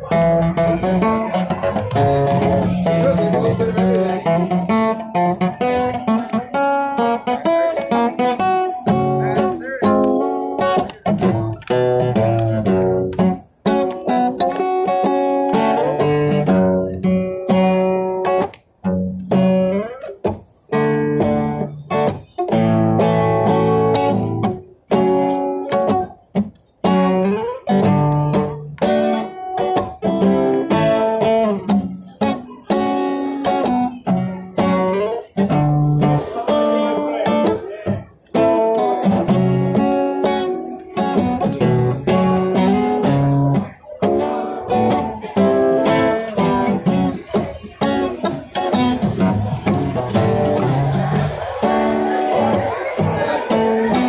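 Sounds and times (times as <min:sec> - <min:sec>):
acoustic guitar playing: 0:00.0 - 0:54.0.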